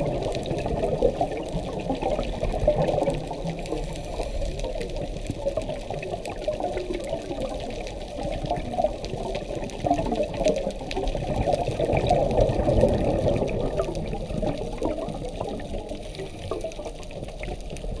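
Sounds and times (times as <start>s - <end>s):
underwater bubbles gurgling: 0.0s - 18.0s.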